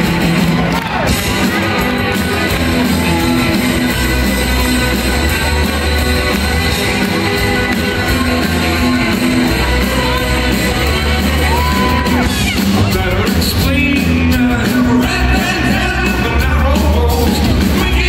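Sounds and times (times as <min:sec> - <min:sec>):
drums: 0:00.0 - 0:18.0
electric guitars: 0:00.0 - 0:18.0
sustained bass notes: 0:00.0 - 0:18.0.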